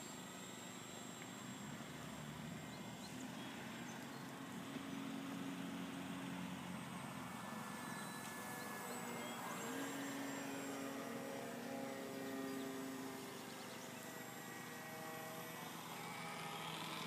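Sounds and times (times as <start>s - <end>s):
model plane motor droning: 0.0s - 17.0s.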